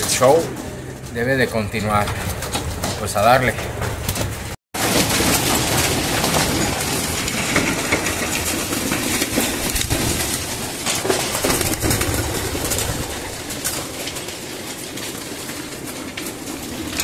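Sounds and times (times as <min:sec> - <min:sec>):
pecking and feet on wire grate: 0:00.0 - 0:17.0
pigeon wings flapping: 0:01.8 - 0:17.0.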